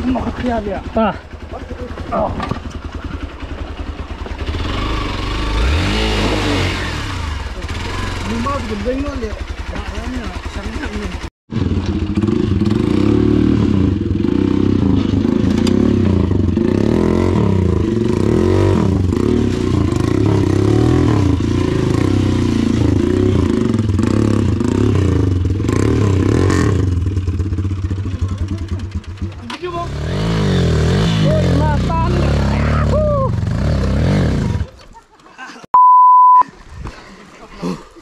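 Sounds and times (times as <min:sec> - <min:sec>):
motorcycle engine revving: 0:00.0 - 0:34.8.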